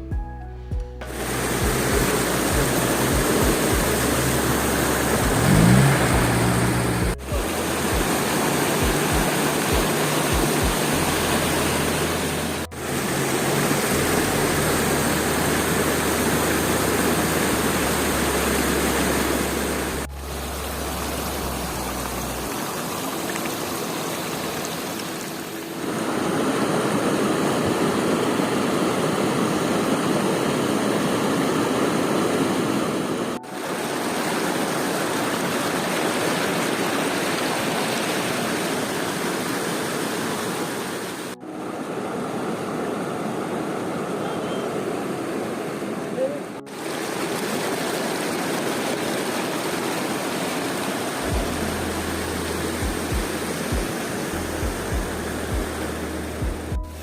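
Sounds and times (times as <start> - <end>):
stream rushing: 1.0 - 57.0.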